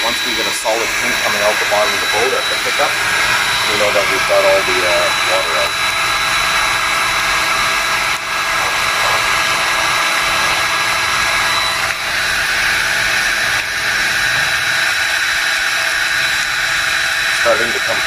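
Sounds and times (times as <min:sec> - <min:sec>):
electric drill whining: 0:00.0 - 0:18.0.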